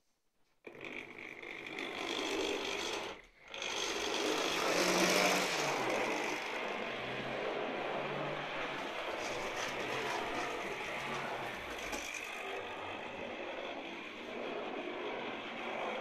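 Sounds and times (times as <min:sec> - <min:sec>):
wheels on rails: 0:00.6 - 0:16.0
model train motor whirring: 0:00.7 - 0:16.0.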